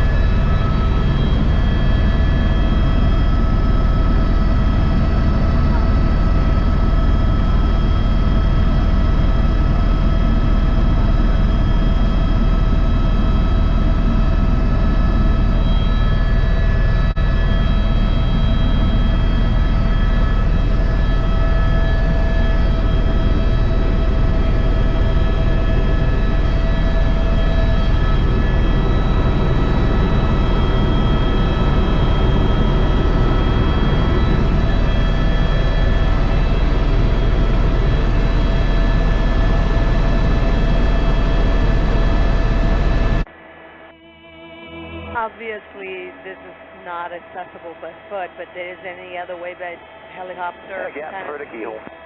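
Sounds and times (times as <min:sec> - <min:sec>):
helicopter rotor and engine rumble: 0:00.0 - 0:43.7, 0:44.8 - 0:52.0
steady whine of fixed tones: 0:00.0 - 0:52.0.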